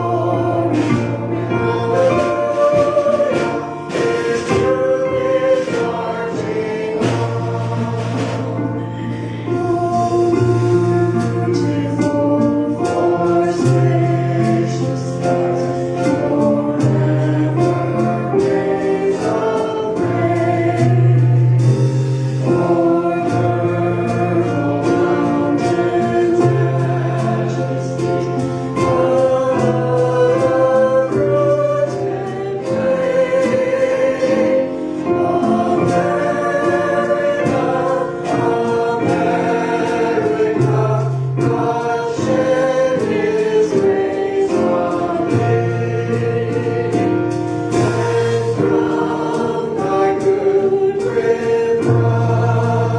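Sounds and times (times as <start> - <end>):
choir singing gospel song: 0.0 - 52.9
instrumental accompaniment: 0.0 - 52.9.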